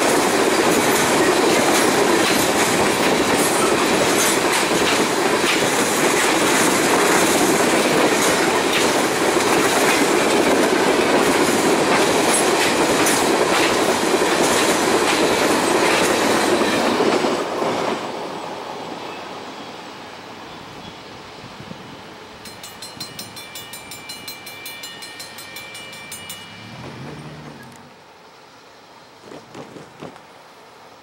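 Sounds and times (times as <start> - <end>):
train wheels rumbling on rail: 0.0 - 19.2, 22.4 - 28.1, 29.1 - 30.7.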